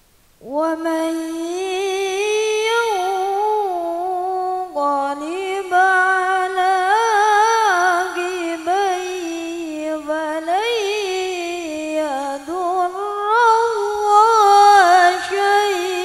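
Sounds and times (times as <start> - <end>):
person chanting recitation: 0.4 - 16.0.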